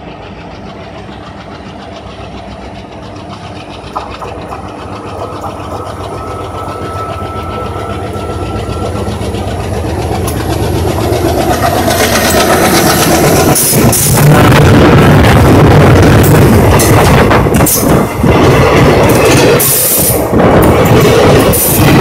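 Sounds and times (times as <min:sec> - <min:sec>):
diesel locomotive engine rumble: 0:00.0 - 0:22.0
train wheels clattering on rails: 0:00.0 - 0:22.0.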